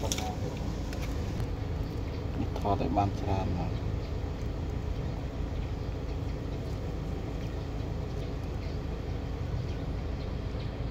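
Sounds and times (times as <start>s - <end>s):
low background rumble: 0.0s - 10.9s.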